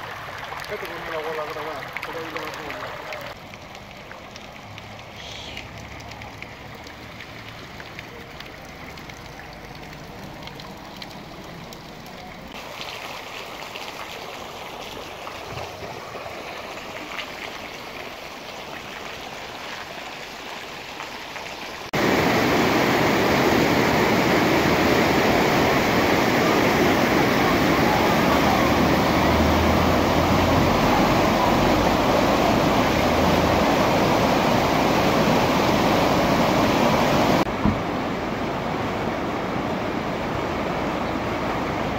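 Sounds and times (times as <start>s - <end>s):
floodwater rushing in canal: 0.0s - 41.9s
rainwater running across street: 0.0s - 41.9s.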